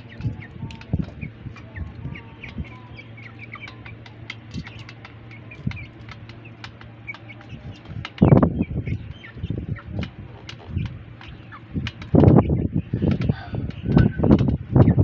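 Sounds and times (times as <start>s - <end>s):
chicks chirping and peeping: 0.0s - 15.0s.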